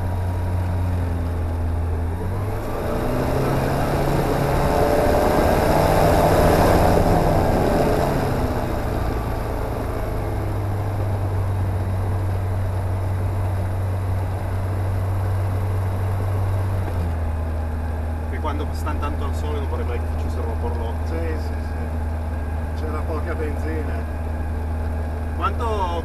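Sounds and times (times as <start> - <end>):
aircraft engine idling: 0.0 - 2.4, 6.9 - 26.0.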